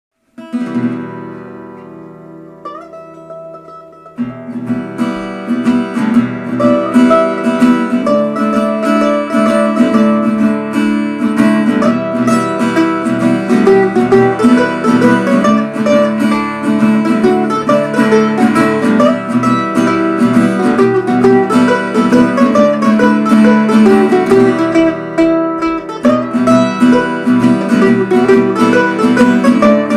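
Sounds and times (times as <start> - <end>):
two guitars playing a tune: 0.4 - 29.9.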